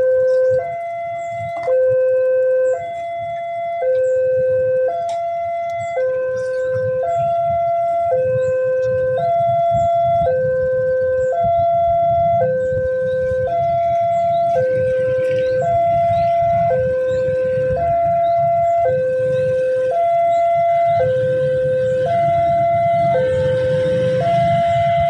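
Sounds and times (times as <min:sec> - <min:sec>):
level crossing two-tone alarm: 0:00.0 - 0:25.0
steady low rumble: 0:00.0 - 0:25.0.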